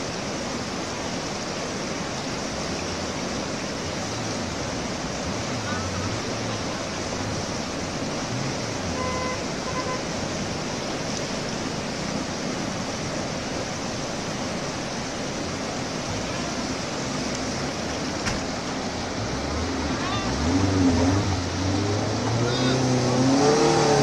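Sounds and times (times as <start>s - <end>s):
river rapids rushing over rocks: 0.0s - 24.0s.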